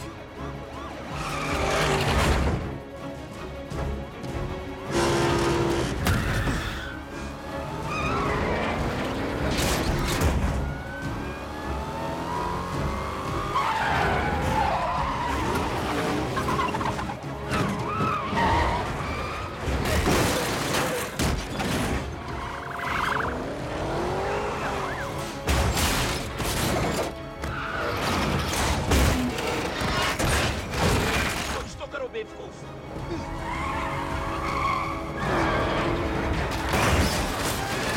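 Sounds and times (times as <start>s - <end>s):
car engines revving: 0.0s - 31.7s, 32.6s - 37.9s
film score music: 0.0s - 37.9s.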